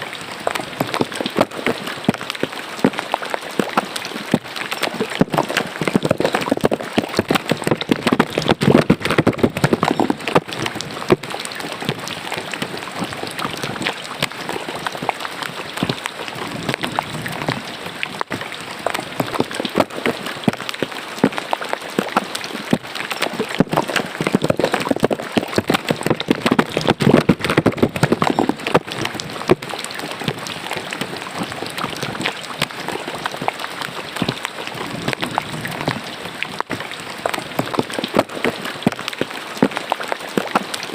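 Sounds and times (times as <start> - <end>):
rain pattering into water: 0.0 - 40.9.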